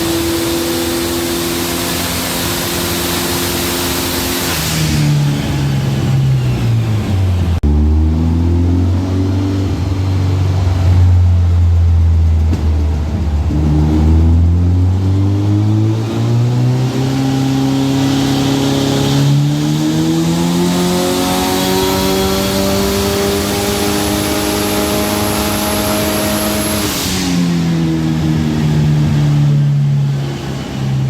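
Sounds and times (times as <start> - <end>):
turbocharged engine revving: 0.0 - 30.9.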